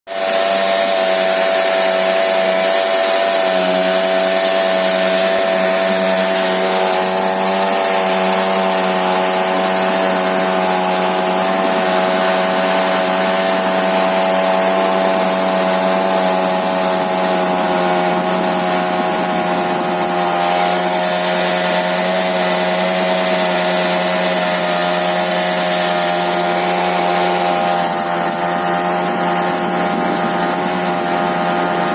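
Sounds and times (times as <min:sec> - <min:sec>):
small scooter engine running: 0:00.1 - 0:31.9.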